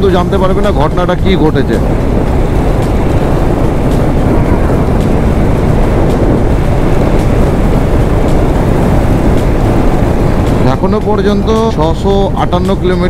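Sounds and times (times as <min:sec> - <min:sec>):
motorcycle engine cruising: 0:00.0 - 0:13.0
wind rush on microphone: 0:00.0 - 0:13.0.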